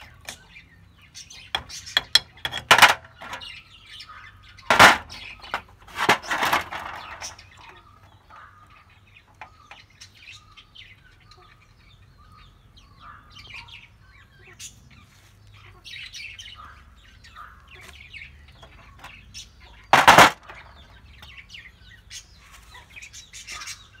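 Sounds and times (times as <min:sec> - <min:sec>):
birds chirping and calling: 0:00.0 - 0:24.0.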